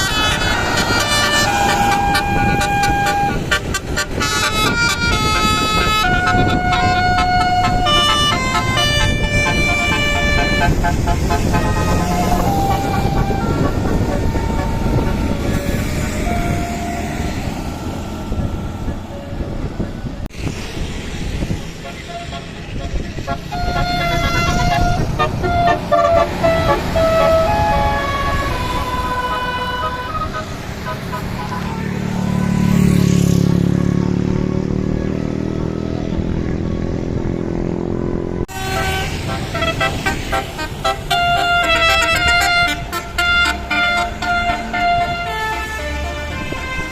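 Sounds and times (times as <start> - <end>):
multi-tone air horn melody: 0.0 - 18.5, 21.7 - 34.1, 38.5 - 46.9
bus engine running: 0.0 - 46.9
traffic: 0.0 - 46.9.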